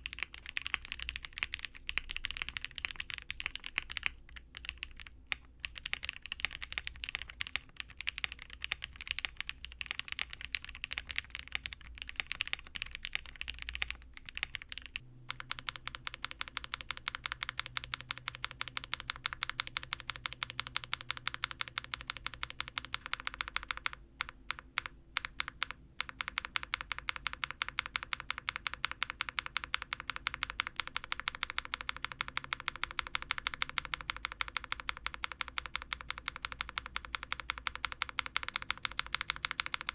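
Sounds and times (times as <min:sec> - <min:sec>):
key clicking rapidly: 0:00.0 - 0:39.9
typing on mechanical keyboard: 0:00.0 - 0:39.9.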